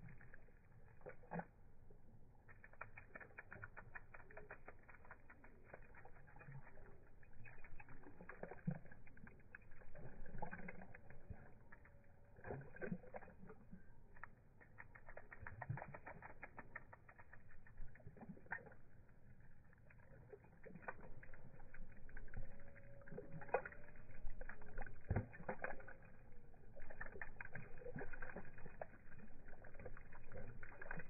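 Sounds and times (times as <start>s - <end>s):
dog lapping water: 0.0s - 31.0s.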